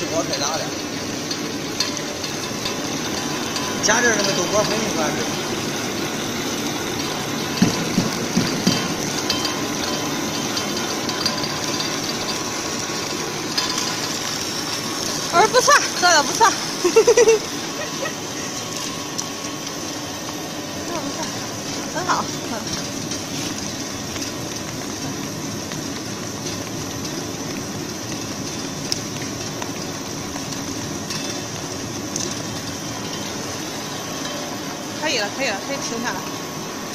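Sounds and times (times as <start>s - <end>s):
snack extrusion line running: 0.0s - 36.9s.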